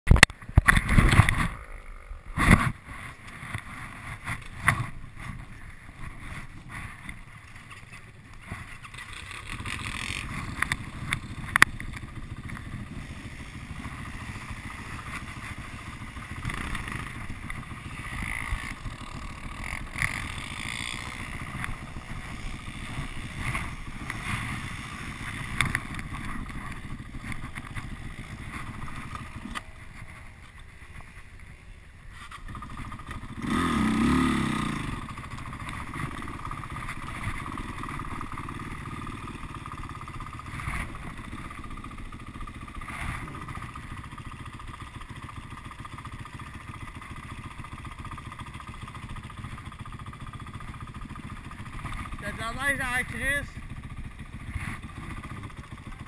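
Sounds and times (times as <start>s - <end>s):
quad bike engine running: 0.1s - 56.0s.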